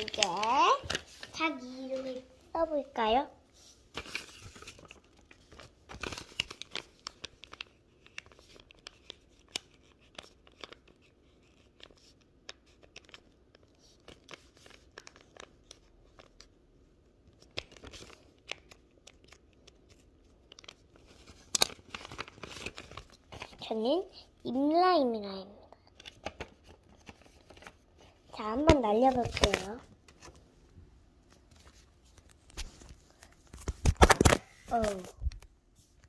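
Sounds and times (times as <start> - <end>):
paper crinkling and rustling: 0.0 - 2.3, 3.0 - 16.6, 17.2 - 23.8, 25.9 - 30.5, 31.2 - 36.0.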